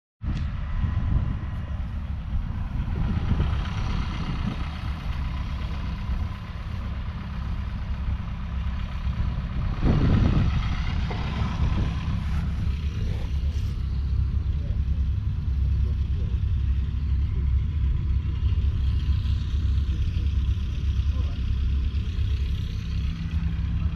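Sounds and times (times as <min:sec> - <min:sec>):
diesel engine running: 0:00.2 - 0:23.9.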